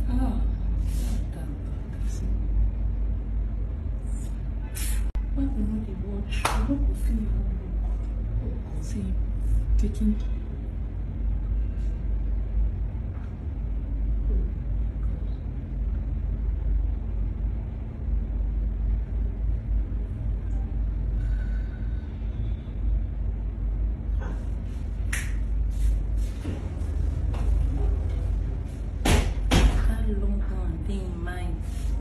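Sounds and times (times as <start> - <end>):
faint hum: 0.0 - 32.0
low background rumble: 0.0 - 32.0.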